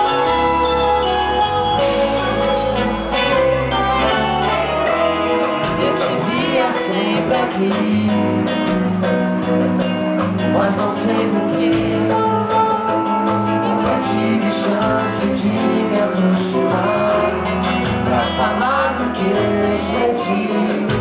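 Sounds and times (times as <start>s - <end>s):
guitar and plucked strings: 0.0s - 21.0s
live band playing: 0.0s - 21.0s
stepping bass line: 0.0s - 21.0s.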